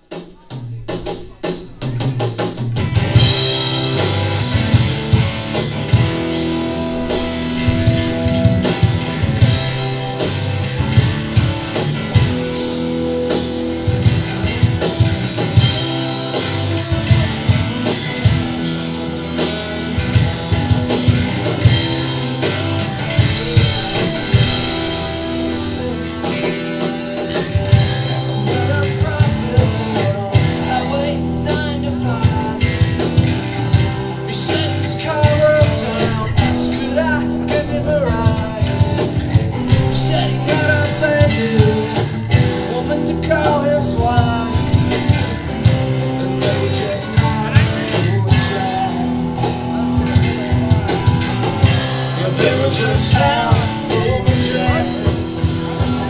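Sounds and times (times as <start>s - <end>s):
rock band playing: 0.0s - 56.0s
drum hits: 0.1s - 56.0s
electric guitars: 0.8s - 56.0s.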